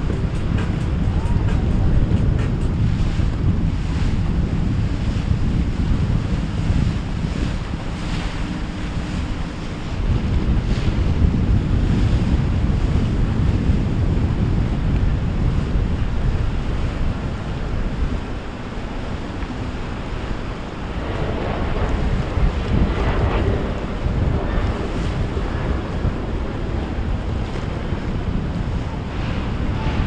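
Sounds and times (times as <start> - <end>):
surf washing: 0.0 - 30.0
wind buffeting microphone: 0.0 - 30.0.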